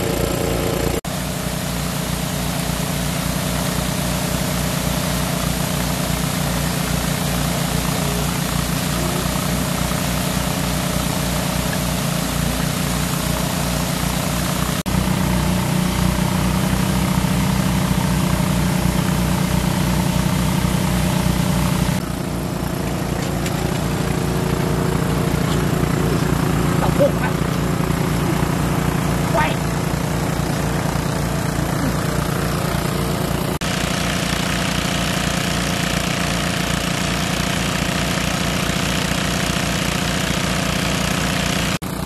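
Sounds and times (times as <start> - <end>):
water rushing out: 0.0 - 41.7
pump engine running: 0.0 - 42.0.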